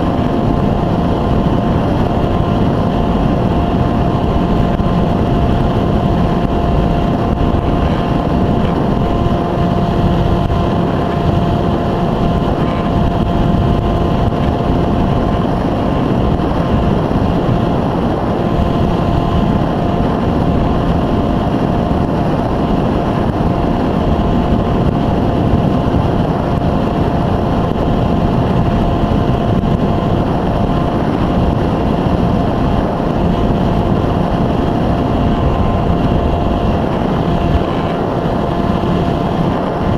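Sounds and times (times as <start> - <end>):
electric motor and propeller: 0.0 - 39.9
wind rush: 0.0 - 39.9.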